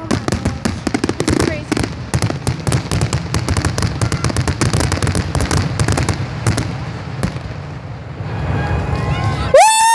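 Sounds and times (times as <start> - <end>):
fireworks popping and cracking: 0.0 - 8.3.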